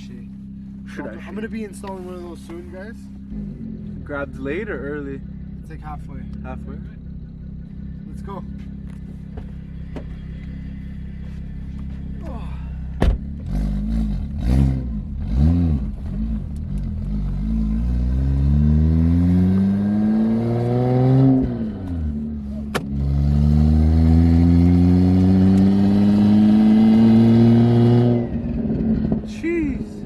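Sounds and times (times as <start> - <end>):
turbo car engine accelerating: 0.0 - 30.0.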